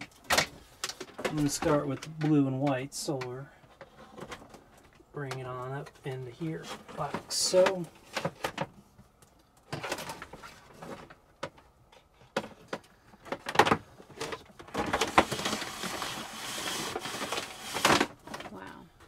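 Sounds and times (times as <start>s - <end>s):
wires rustling and scraping: 0.0s - 19.0s.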